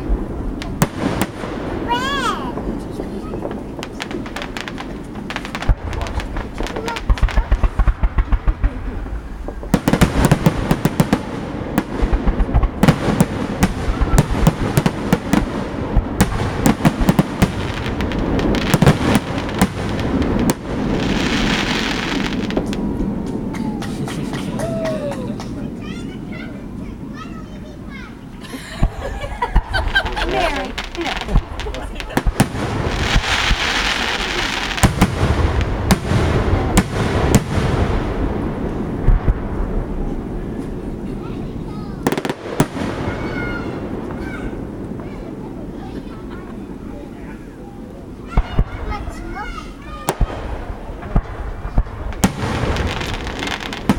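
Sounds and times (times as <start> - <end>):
fireworks bangs and crackles: 0.0 - 53.9
fireworks crackling hiss: 0.0 - 53.9.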